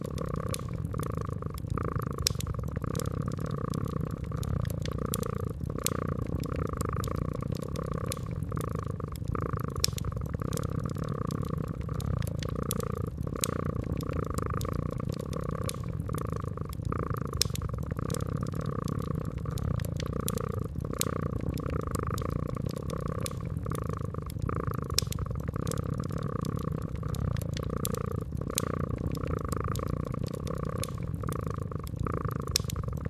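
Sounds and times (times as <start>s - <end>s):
cat purring: 0.0s - 33.0s
wood fire crackling and popping: 0.0s - 33.0s.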